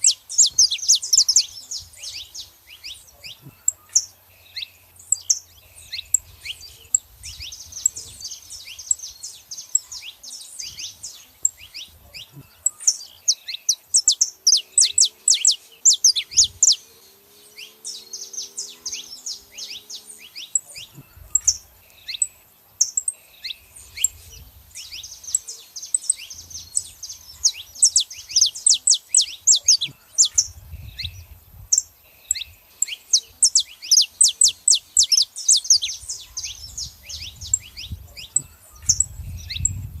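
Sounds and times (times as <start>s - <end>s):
finches chirping and singing: 0.0s - 40.0s.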